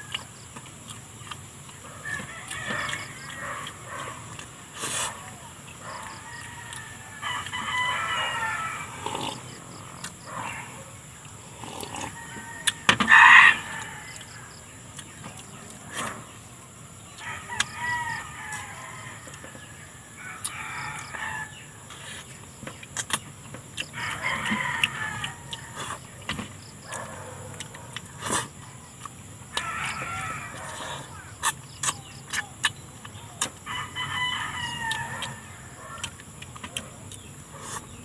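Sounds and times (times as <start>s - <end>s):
faint eating clicks: 0.0s - 12.9s, 13.8s - 16.2s, 21.9s - 33.8s, 34.6s - 38.0s
roosters crowing: 1.8s - 22.2s, 23.8s - 27.9s, 29.3s - 32.2s, 33.5s - 37.1s.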